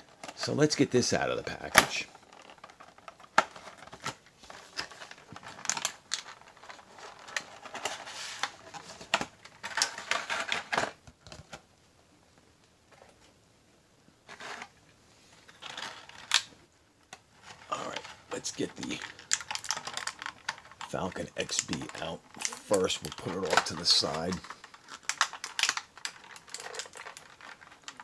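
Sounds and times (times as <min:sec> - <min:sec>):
plastic packaging crackling: 0:01.4 - 0:11.6, 0:15.4 - 0:28.0.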